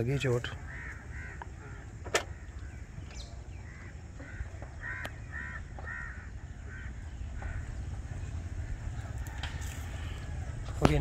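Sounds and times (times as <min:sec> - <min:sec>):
steady low rumble: 0:00.0 - 0:11.0
crows cawing: 0:00.2 - 0:10.5.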